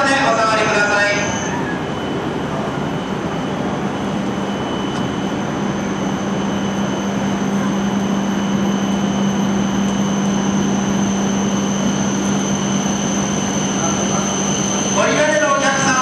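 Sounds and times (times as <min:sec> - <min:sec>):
train mechanical hum: 0:00.0 - 0:16.0.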